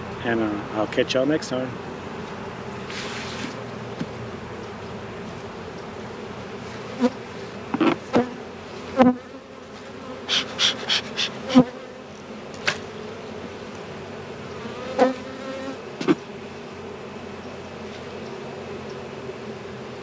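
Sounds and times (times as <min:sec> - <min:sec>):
bees buzzing: 0:01.7 - 0:20.0.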